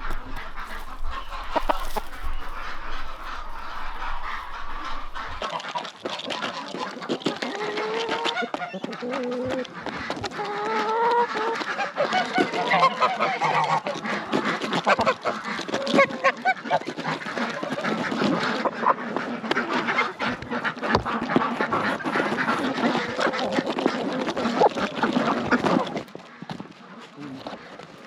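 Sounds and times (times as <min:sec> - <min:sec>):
geese honking: 0:00.0 - 0:27.8
ducks quacking: 0:00.0 - 0:28.0.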